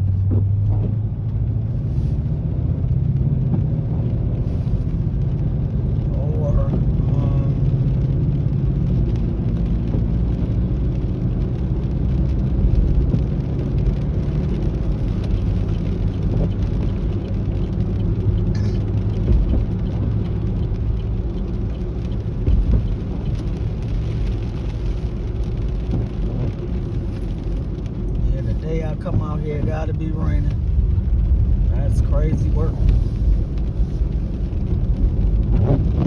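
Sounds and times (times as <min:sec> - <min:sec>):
truck engine and road noise: 0:00.0 - 0:36.0.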